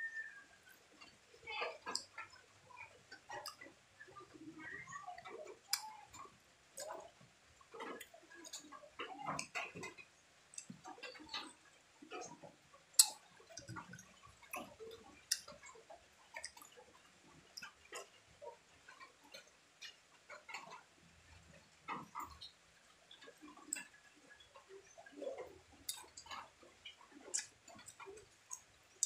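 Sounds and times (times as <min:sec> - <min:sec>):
chewing orange segments: 0:00.7 - 0:29.0.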